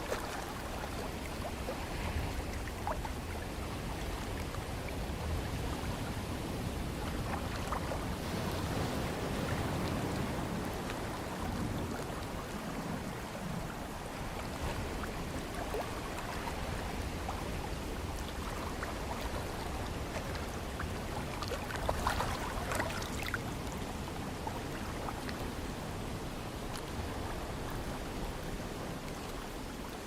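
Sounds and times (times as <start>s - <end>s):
ocean waves: 0.0s - 30.0s
wind: 0.0s - 30.0s.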